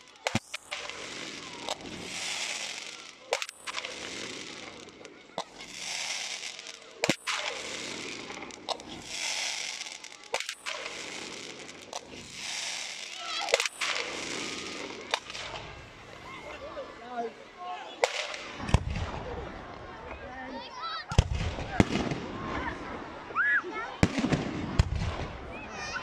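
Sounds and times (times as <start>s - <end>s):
fireworks bangs: 0.0s - 16.5s, 18.0s - 20.0s, 21.1s - 22.9s, 23.9s - 26.0s
crackling fizz of fireworks: 0.0s - 17.0s, 18.0s - 26.0s.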